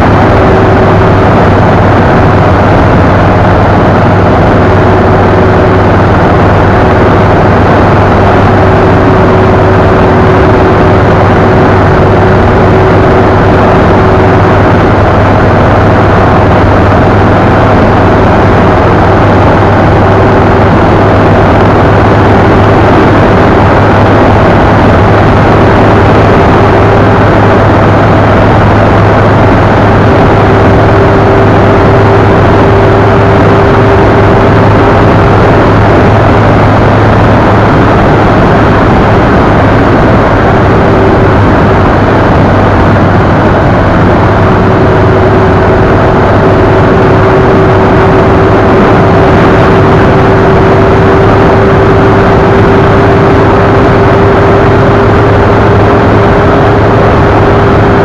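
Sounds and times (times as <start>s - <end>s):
vehicle engine hum: 0.0s - 58.0s
wind rush on microphone: 0.0s - 58.0s.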